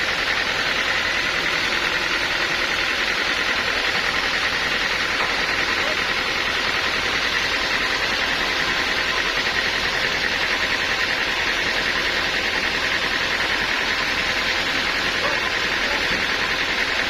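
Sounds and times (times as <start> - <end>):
sawmill engine and saw: 0.0 - 17.0.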